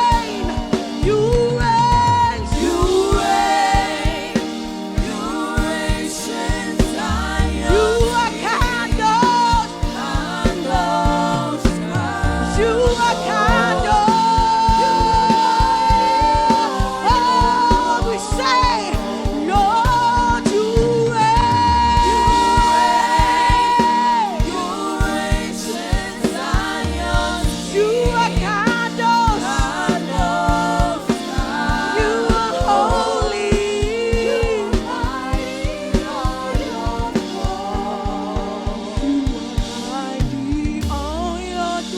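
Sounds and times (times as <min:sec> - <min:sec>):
drum and bass beat: 0:00.0 - 0:41.6
gospel singers with band: 0:00.0 - 0:41.9
lead voice holding long notes: 0:00.0 - 0:41.9.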